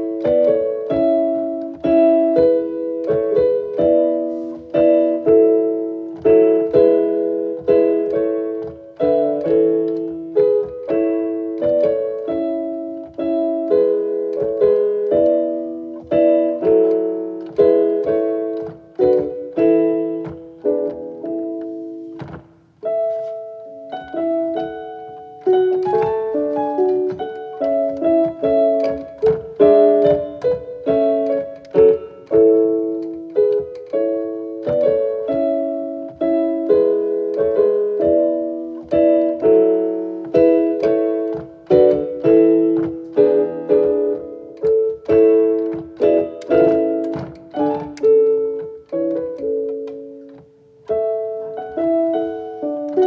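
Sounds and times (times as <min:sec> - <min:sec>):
gentle piano music: 0:00.0 - 0:53.0.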